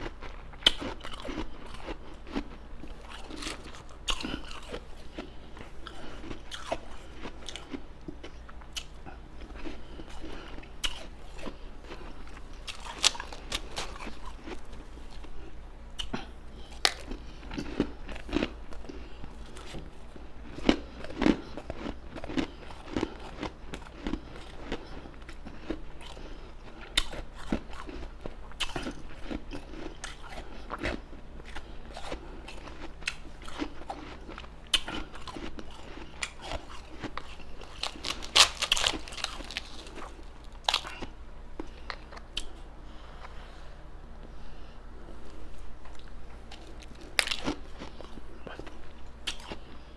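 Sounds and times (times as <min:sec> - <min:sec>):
chewing crunchy ice: 0:00.0 - 0:42.5, 0:45.2 - 0:49.8.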